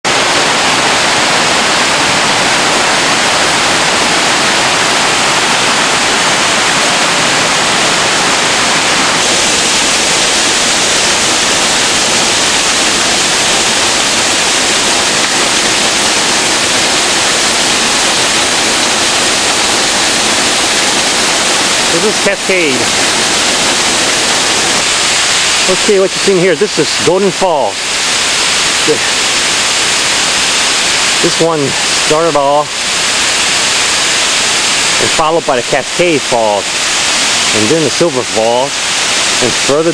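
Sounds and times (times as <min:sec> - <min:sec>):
waterfall splashing onto rock: 0:00.0 - 0:39.9.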